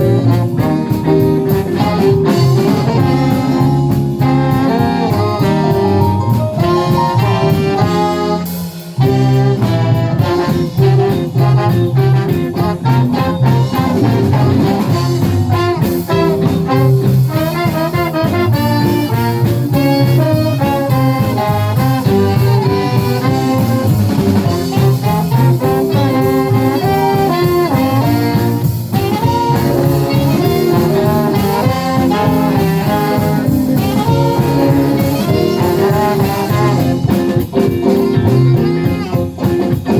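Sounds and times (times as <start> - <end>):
live band playing a song: 0.0 - 39.9.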